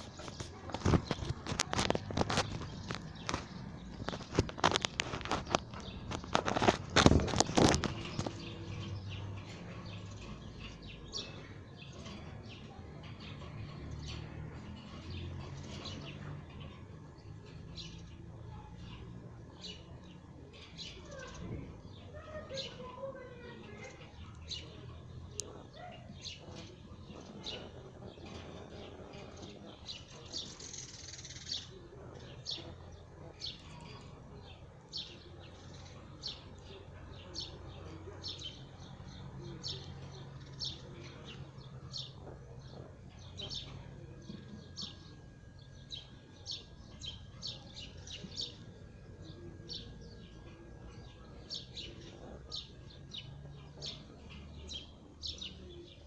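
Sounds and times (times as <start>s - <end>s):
canaries chirping: 0.0s - 56.0s.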